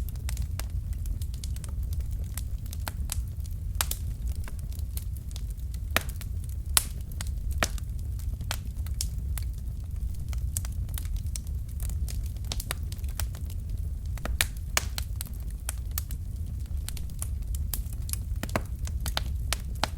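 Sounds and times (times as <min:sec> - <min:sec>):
burning logs crackling and popping: 0:00.0 - 0:19.9
low rumble of flames: 0:00.0 - 0:19.9.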